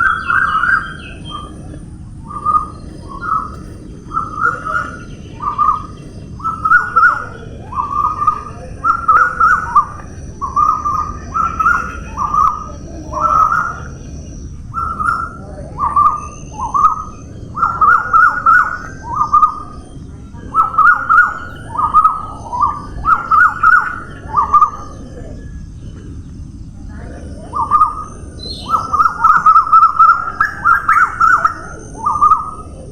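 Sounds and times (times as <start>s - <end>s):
bird calling: 0.0s - 32.9s.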